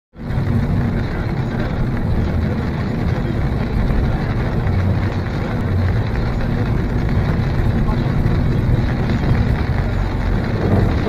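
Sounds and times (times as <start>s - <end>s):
car driving on wet highway: 0.2s - 11.0s.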